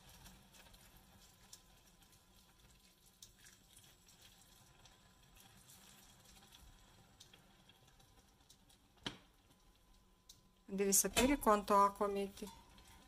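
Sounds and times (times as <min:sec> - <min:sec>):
faint simmer in a pan: 0:00.0 - 0:13.0.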